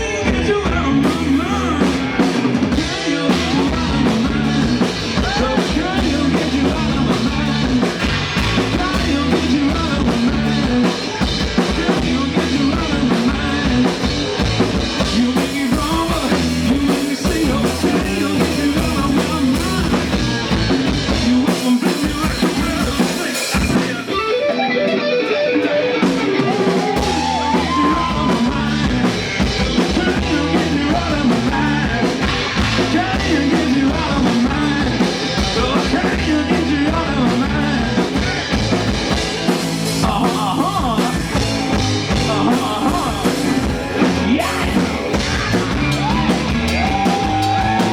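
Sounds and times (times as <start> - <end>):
rock band playing live: 0.0 - 47.9.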